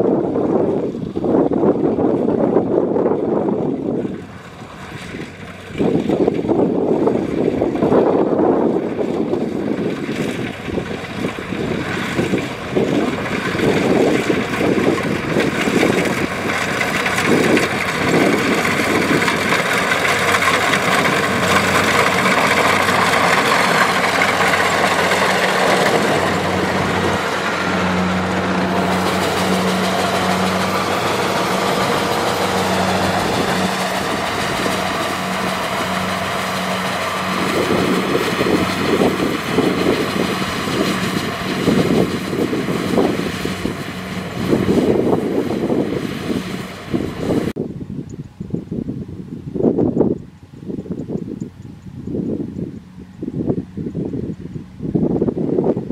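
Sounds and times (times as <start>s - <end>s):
diesel engine drone: 0.0s - 55.9s
rattling harvester machinery: 0.1s - 47.6s.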